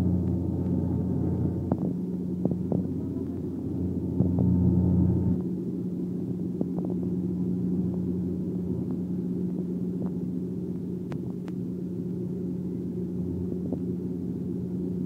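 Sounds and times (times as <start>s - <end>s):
propeller airliner cabin drone: 0.0s - 15.0s.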